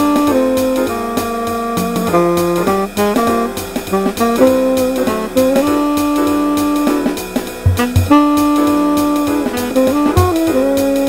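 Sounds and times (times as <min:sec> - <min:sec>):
chord comping: 0:00.0 - 0:11.0
saxophone melody: 0:00.0 - 0:11.0
steady drum pulse: 0:00.0 - 0:11.0.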